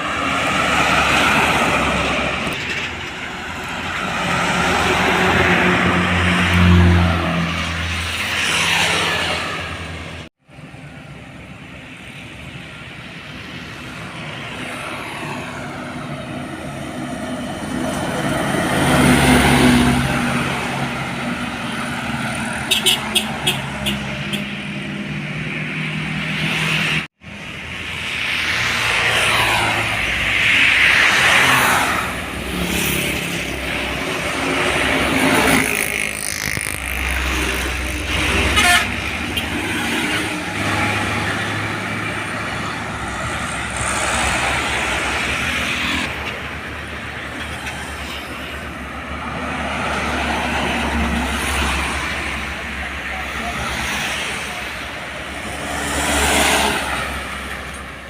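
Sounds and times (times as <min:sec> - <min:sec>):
road traffic passing: 0:00.0 - 0:58.0
trucks going by: 0:00.0 - 0:58.0.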